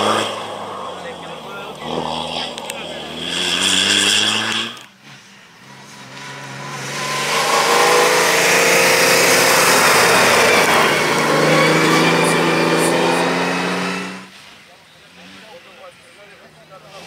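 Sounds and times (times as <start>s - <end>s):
rally car passing at high revs: 0.0s - 16.2s
gravel and tyre noise: 0.0s - 17.0s.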